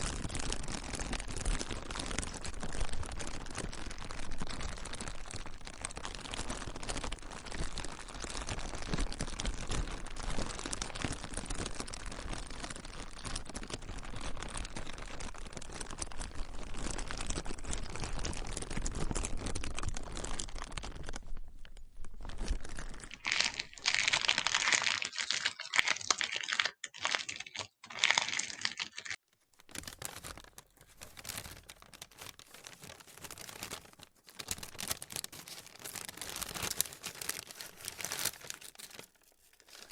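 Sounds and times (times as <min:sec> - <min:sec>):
plastic crinkling: 0:00.0 - 0:39.9.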